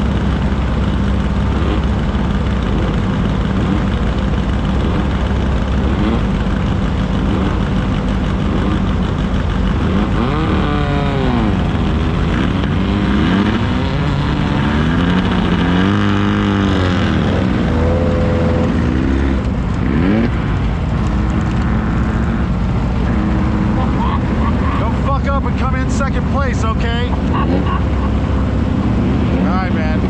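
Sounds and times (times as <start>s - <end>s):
race engines revving past: 0.0s - 30.0s
steady low rumble: 0.0s - 30.0s.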